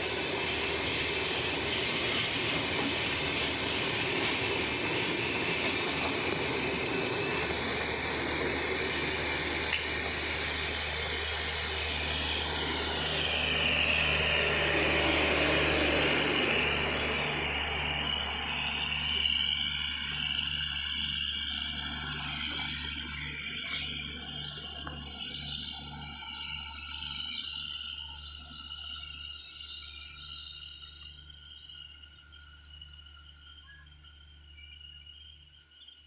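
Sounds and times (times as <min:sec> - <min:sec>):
diesel generator hum: 0:00.0 - 0:36.0
train wheels rumbling on rails: 0:00.0 - 0:36.0.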